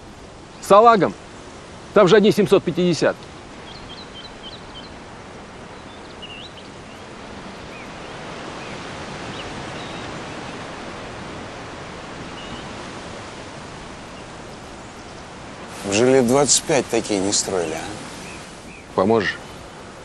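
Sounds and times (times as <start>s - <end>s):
soft outdoor hiss: 0.0s - 20.0s
small birds chirping: 2.6s - 20.0s.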